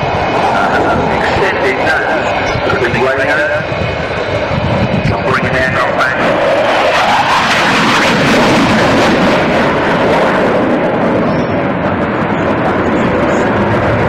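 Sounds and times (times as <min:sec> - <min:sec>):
jet roar: 0:00.0 - 0:14.0.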